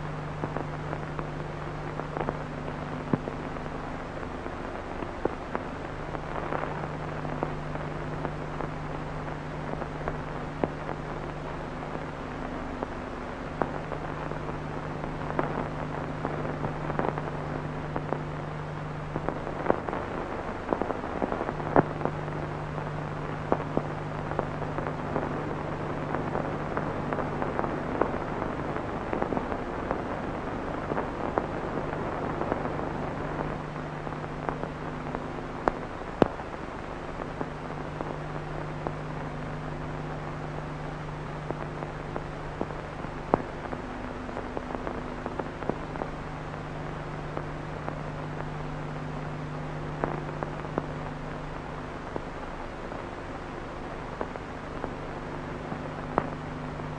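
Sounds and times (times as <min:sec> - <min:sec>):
low hum: 0:00.0 - 0:56.9
old film crackle and clicks: 0:00.2 - 0:56.9.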